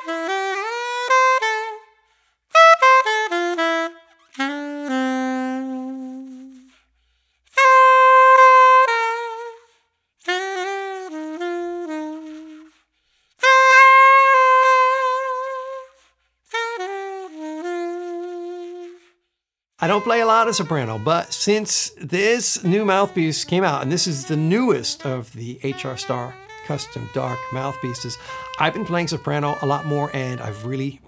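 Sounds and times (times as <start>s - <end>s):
soprano saxophone phrases: 0.0s - 1.9s, 2.5s - 6.8s, 7.6s - 12.8s, 13.4s - 19.1s, 19.8s - 31.0s.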